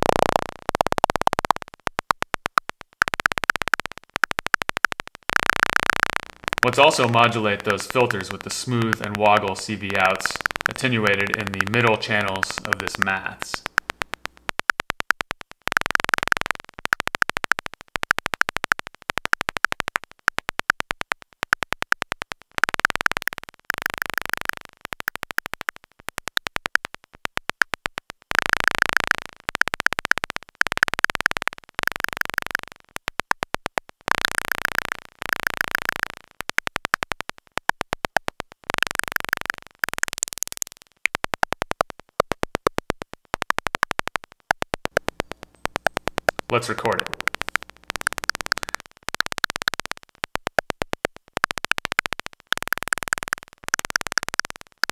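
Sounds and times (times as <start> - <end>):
synthesizer click bursts: 0.0 - 27.2, 38.0 - 54.9.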